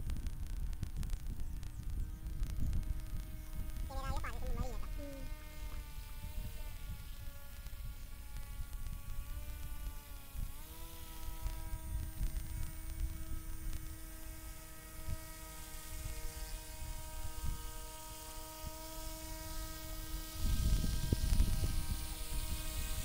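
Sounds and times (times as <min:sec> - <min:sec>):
small electric motors whining: 0:00.4 - 0:23.0.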